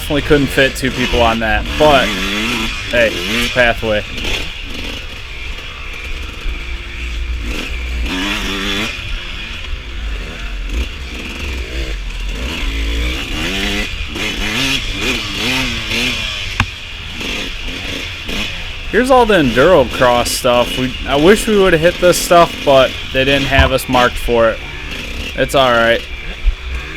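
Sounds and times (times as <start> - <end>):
bike rumble and clatter: 0.0 - 26.9
dirt bike engine revving: 0.0 - 26.9.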